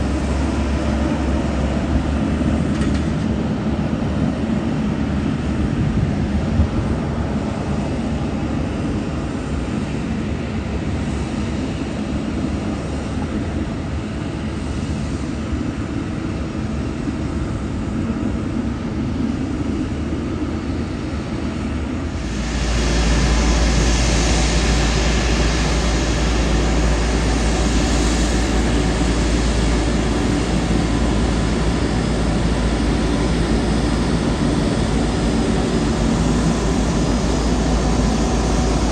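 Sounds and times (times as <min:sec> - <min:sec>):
jet airliner engine rumble: 0:00.0 - 0:38.9.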